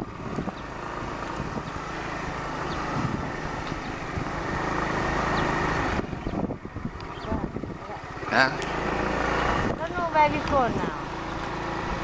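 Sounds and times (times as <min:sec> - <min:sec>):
wind rushing over microphone: 0:00.0 - 0:08.3, 0:09.1 - 0:11.0
motorbike engine running: 0:00.0 - 0:12.0.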